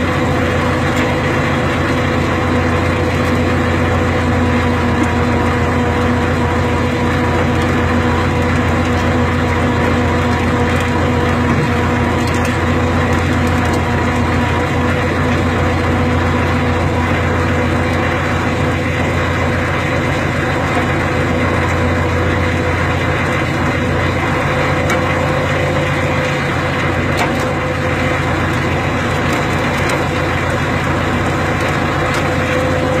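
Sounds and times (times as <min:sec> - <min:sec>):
machine engine running steadily: 0:00.0 - 0:33.0.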